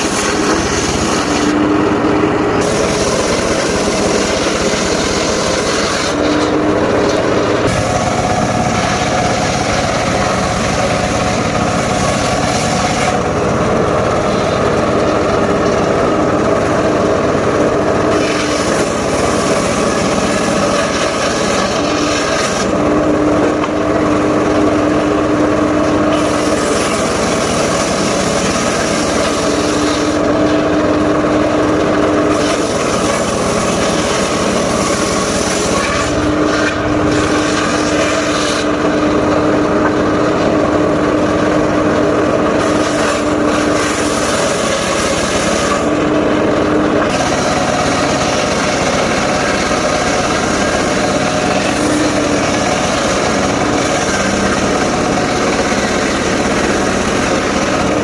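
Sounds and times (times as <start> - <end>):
circular saw cutting timber: 0.0 - 58.0.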